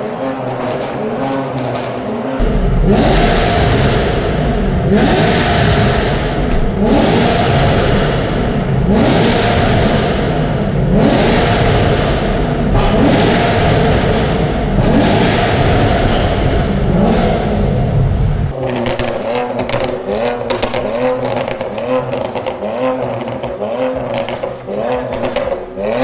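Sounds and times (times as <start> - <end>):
car engines revving in a tunnel: 0.0 - 26.0
exhaust pops and bangs: 0.0 - 26.0.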